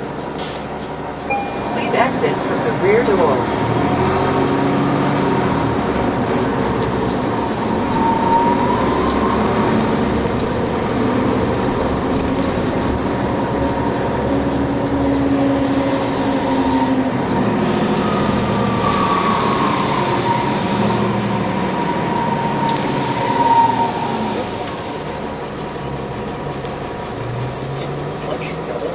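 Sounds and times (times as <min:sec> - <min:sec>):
bus engine and drivetrain noise: 0:00.0 - 0:28.9
rising drivetrain whine: 0:00.0 - 0:28.9.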